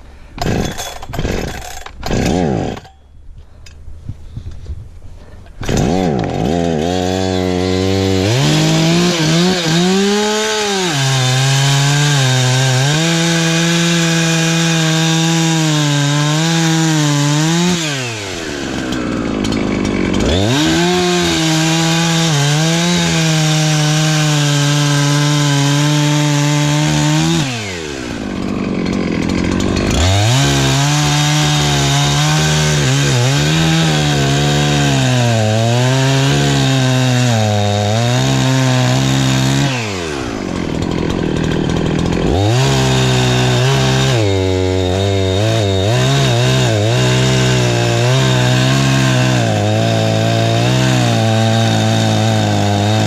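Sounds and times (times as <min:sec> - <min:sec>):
chainsaw cutting wood: 0:00.3 - 0:03.1, 0:05.5 - 0:53.0.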